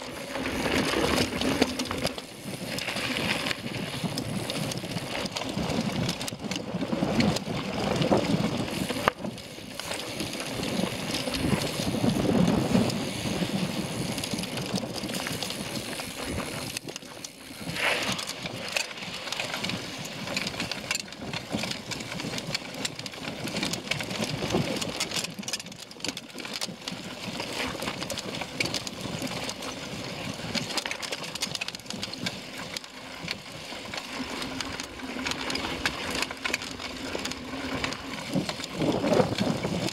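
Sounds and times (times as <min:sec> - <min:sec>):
bike parts rattling: 0:00.0 - 0:39.9
bike tyres rumbling on rocky dirt: 0:00.0 - 0:39.9.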